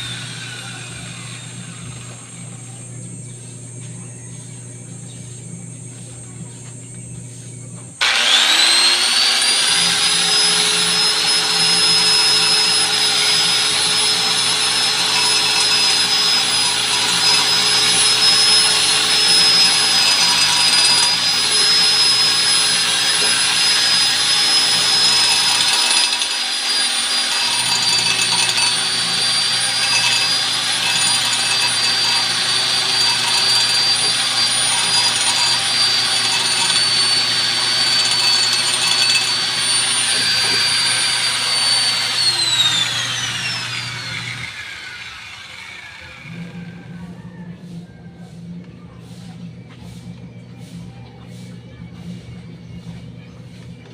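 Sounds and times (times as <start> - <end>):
electric grinder whining: 0.0 - 47.2.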